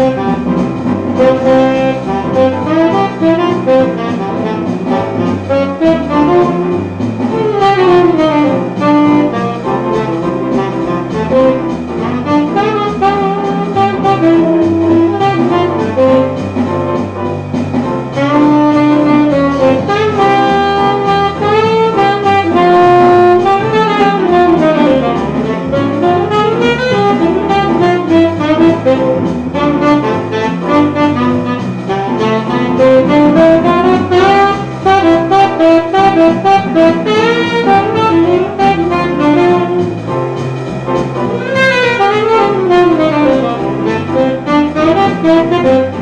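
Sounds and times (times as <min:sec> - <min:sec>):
tenor saxophone melody: 0:00.0 - 0:16.6, 0:17.5 - 0:46.0
low bass notes: 0:00.0 - 0:46.0.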